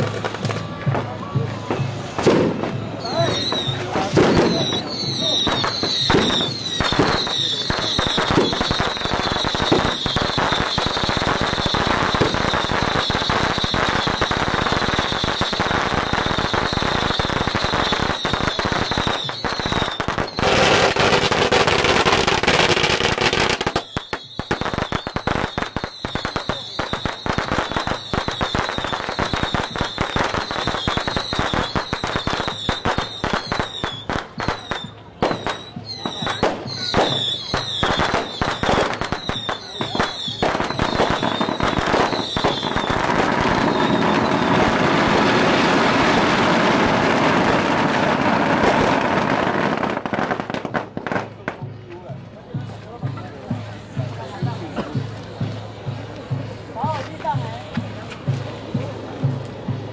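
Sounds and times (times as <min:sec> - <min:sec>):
firecrackers crackling: 0:00.0 - 0:59.9.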